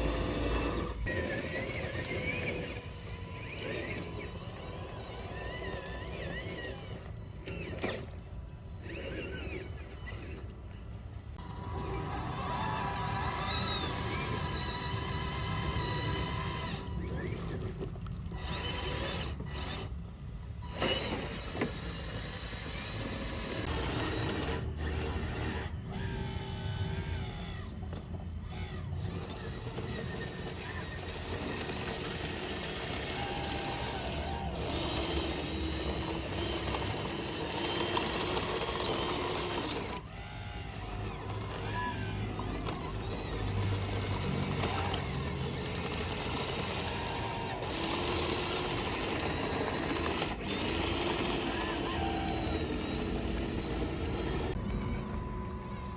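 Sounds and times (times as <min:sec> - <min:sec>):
electric motors and pumps whirring: 0:00.0 - 0:55.9.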